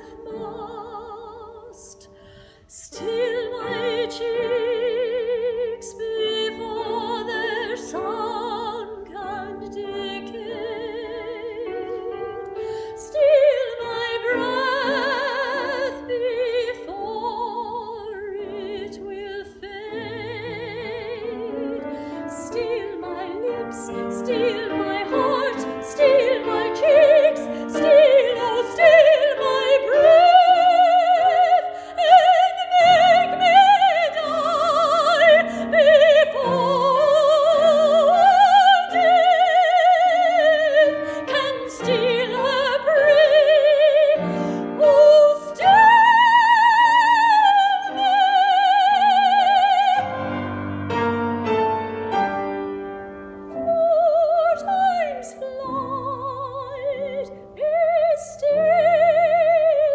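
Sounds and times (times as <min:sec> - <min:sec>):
woman singing opera: 0:00.0 - 0:50.7, 0:53.4 - 0:59.9
piano accompaniment: 0:00.0 - 0:59.9.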